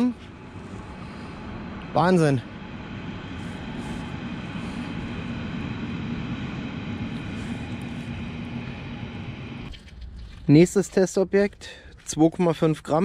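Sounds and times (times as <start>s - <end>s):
low hum: 0.0s - 11.4s
steady mechanical drone: 0.0s - 13.0s.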